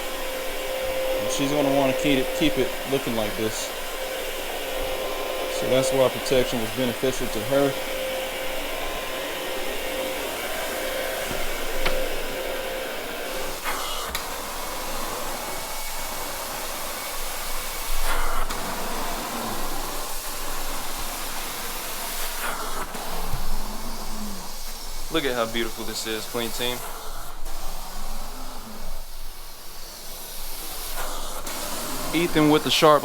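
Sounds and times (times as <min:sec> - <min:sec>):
vacuum suction hiss: 0:00.0 - 0:33.0.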